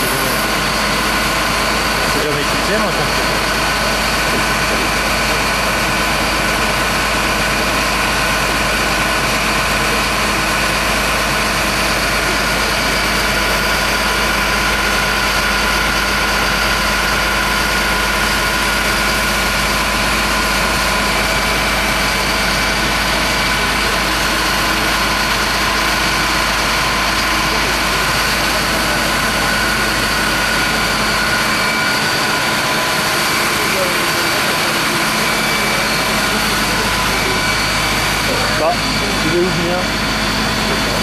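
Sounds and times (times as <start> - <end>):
truck engine idling: 0.0 - 41.0
whining tones: 0.0 - 41.0.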